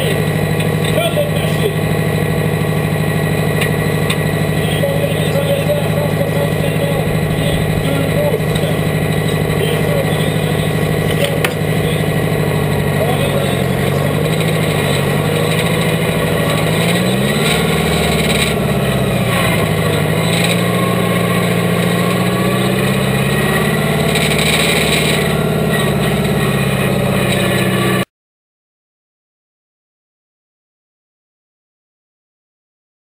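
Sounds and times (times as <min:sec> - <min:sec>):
tractor engine revving: 0:00.0 - 0:28.1.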